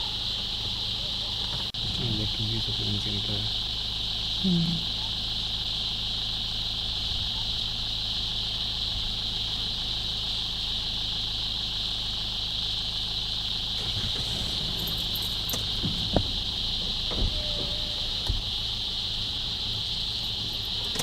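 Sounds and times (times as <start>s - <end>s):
shrill insect chorus: 0.0s - 21.0s
vehicle engine idling: 0.0s - 21.0s.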